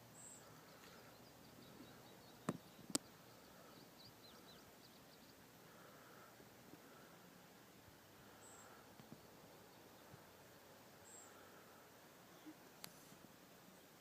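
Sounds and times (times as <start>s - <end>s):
faint bird chirps: 0.0s - 7.3s, 8.1s - 14.0s.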